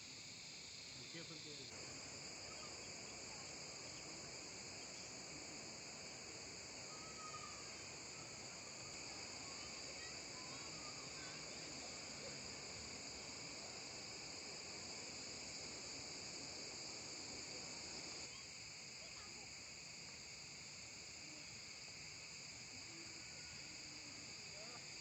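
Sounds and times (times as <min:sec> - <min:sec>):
shrill insect chorus: 0:00.0 - 0:25.0.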